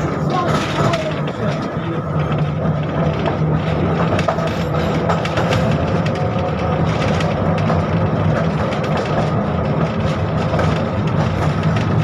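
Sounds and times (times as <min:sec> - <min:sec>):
tram rumbling and humming: 0:00.0 - 0:12.0.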